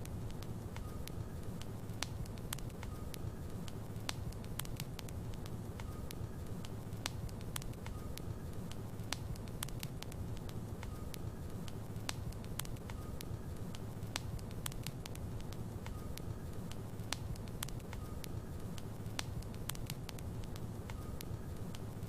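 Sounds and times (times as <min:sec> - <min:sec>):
flames rumbling in fireplace: 0:00.0 - 0:22.0
logs crackling and popping: 0:00.0 - 0:22.0.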